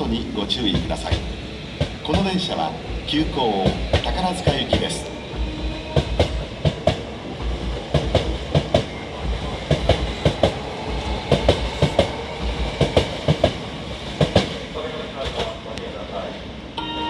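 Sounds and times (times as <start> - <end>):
train running rumble: 0.0 - 16.7
train wheels clacking over rail joints: 0.6 - 15.6.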